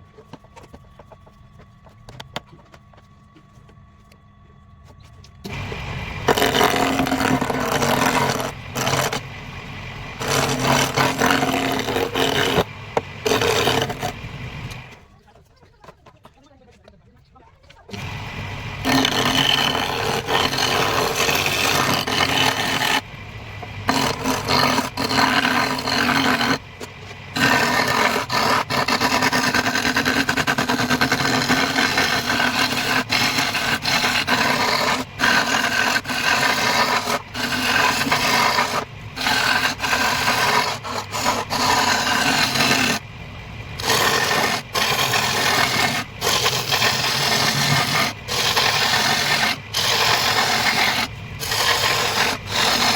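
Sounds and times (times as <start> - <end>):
tool scraping spinning wood: 0.0 - 4.2, 4.9 - 17.0, 17.6 - 43.1, 43.7 - 52.9
lathe motor humming: 5.4 - 15.1, 17.9 - 52.9.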